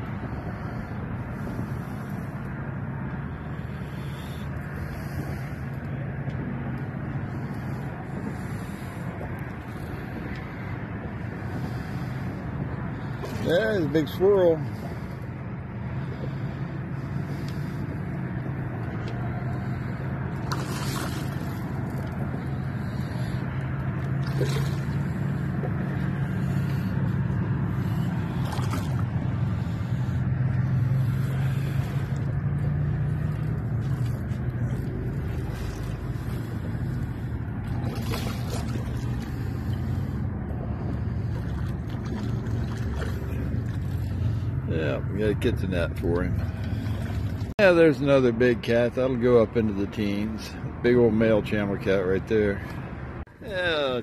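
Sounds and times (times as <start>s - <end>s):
water noise: 0.0s - 50.0s
boat motor humming: 0.0s - 54.0s
wind: 0.0s - 54.0s.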